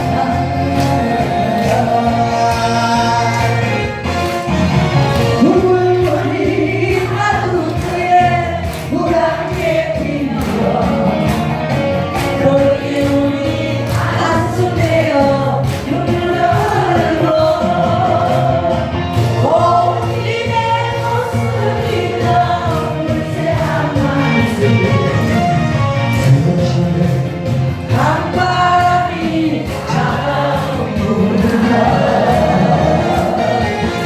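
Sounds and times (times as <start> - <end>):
bass line: 0.0 - 34.0
drum beat: 0.0 - 34.0
person singing over backing track: 0.0 - 34.0.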